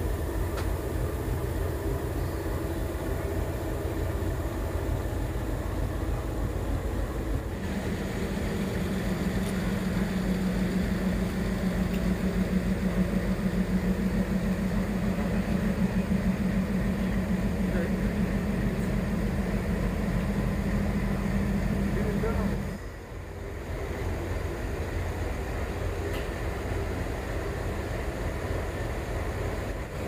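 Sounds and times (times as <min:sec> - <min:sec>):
engine idling: 0:00.0 - 0:30.0
low rumble: 0:00.6 - 0:26.8.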